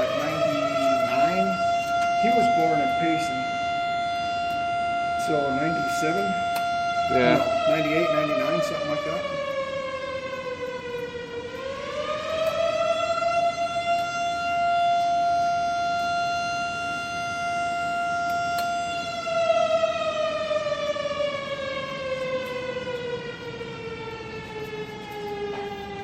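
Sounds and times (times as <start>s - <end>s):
air raid siren wailing: 0.0s - 26.0s.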